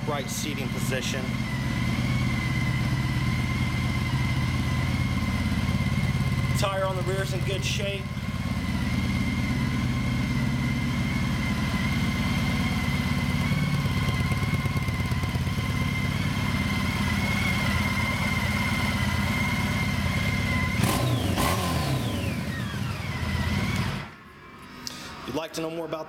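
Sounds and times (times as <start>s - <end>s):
motorcycle engine idling: 0.0s - 24.2s.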